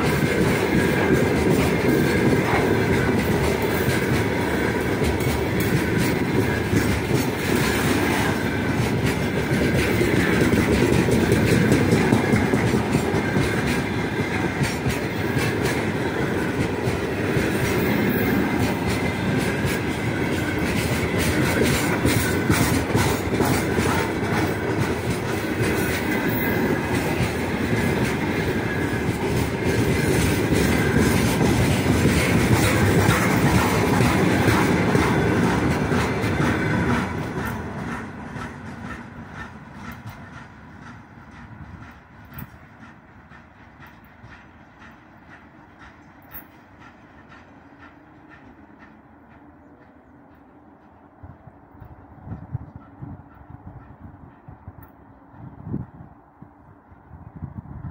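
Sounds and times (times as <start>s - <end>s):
clickety-clack over rail joints: 0.0s - 57.9s
train wheels rumbling on rails: 0.0s - 57.9s.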